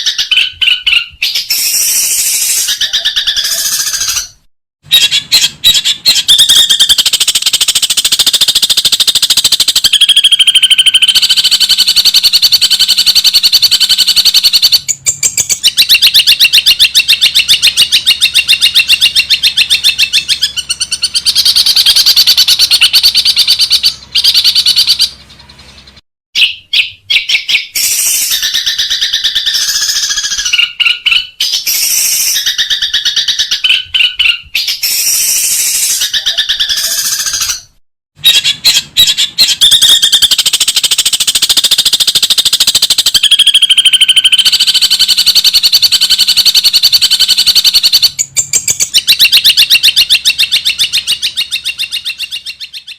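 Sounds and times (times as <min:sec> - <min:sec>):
bird singing harsh chattering notes: 0:00.0 - 0:52.9.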